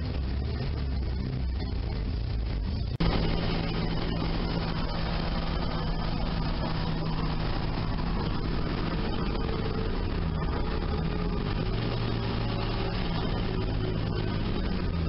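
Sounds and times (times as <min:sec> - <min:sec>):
car engine running: 0:00.0 - 0:15.0
wind and road noise: 0:00.0 - 0:15.0.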